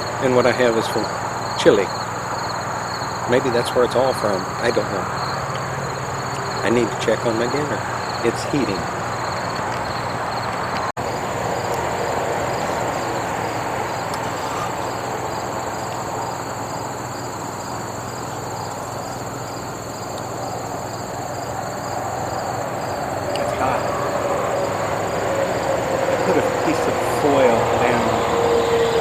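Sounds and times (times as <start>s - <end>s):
background noise: 0.0s - 29.0s
crickets chirping: 0.0s - 29.0s.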